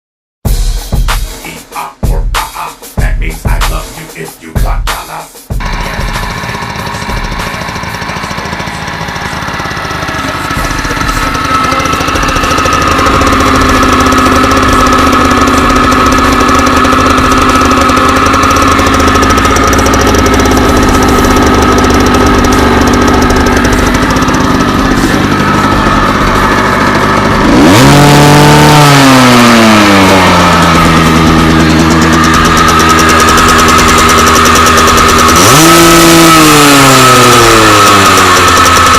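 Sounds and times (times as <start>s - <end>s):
motorcycle engine revving: 2.1s - 38.9s
motorcycle engine idling: 5.5s - 38.9s.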